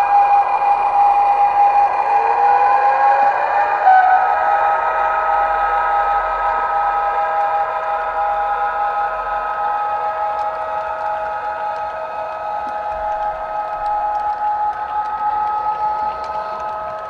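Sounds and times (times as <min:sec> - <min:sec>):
model locomotive motor whine: 0:00.0 - 0:17.0.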